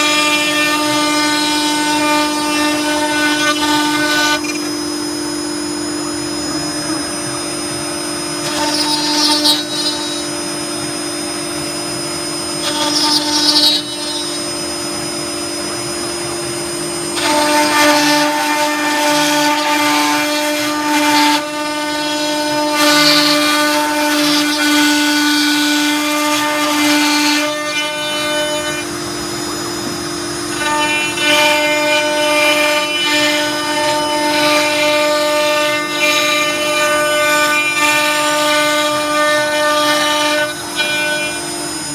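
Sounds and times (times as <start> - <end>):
router bit cutting fibreboard: 0.0 - 41.9
router spindle whine: 0.0 - 41.9.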